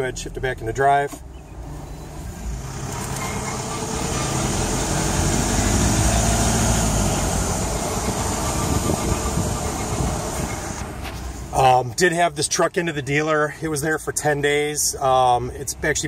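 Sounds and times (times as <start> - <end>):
road and wind noise: 0.0 - 16.0
van whining: 0.0 - 16.0.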